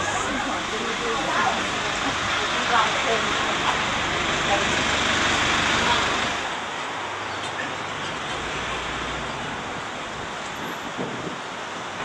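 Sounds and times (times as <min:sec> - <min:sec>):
passing vehicles hiss and rumble: 0:00.0 - 0:12.0.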